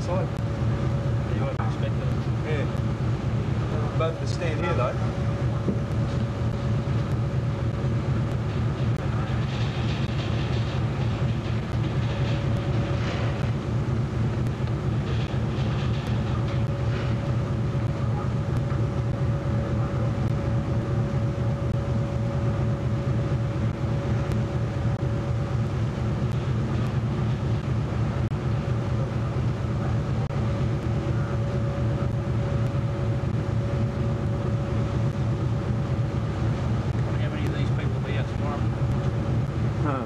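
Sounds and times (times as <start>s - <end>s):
constant hum: 0.0s - 40.0s
ship machinery drone: 0.0s - 40.0s.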